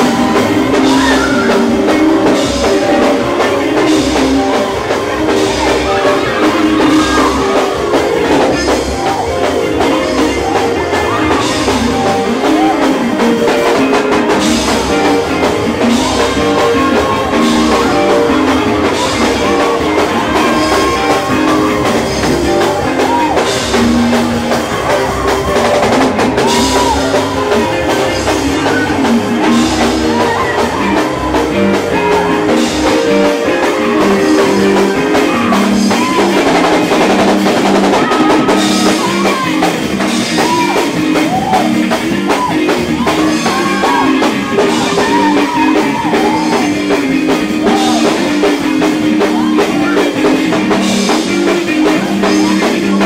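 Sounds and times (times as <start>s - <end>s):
drum kit: 0.0s - 53.0s
guitar: 0.0s - 53.0s
voices singing: 0.0s - 53.0s.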